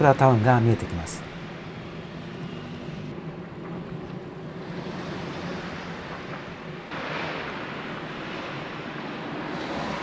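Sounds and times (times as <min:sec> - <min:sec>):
road traffic hum: 0:00.0 - 0:10.0.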